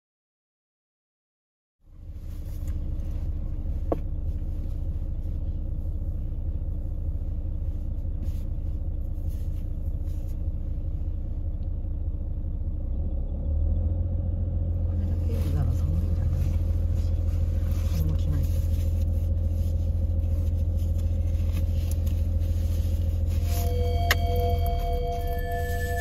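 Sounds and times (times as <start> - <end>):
car engine idling: 1.8 - 26.0.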